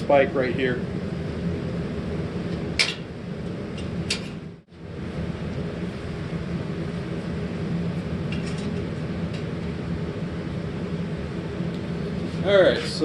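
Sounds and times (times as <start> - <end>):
forge rushing with low hum: 0.0 - 13.0.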